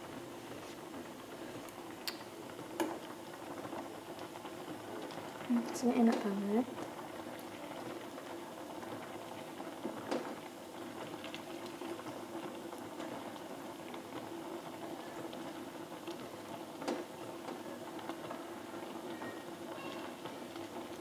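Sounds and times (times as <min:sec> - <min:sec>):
soup boiling in a pot: 0:00.0 - 0:21.0.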